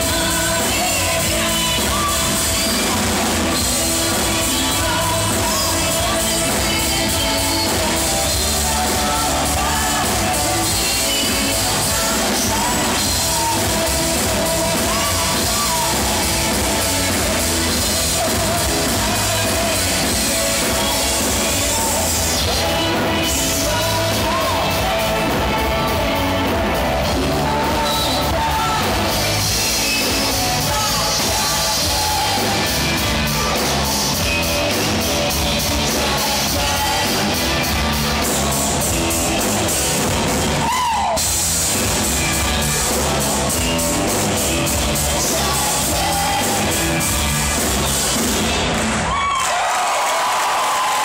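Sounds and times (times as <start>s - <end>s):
person singing: 0.0s - 48.7s
live rock band playing: 0.0s - 49.3s.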